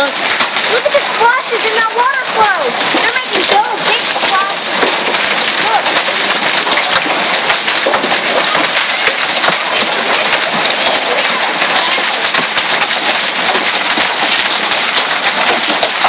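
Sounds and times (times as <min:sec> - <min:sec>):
hailstones pelting down: 0:00.0 - 0:16.0
hailstones splashing into water: 0:00.0 - 0:16.0.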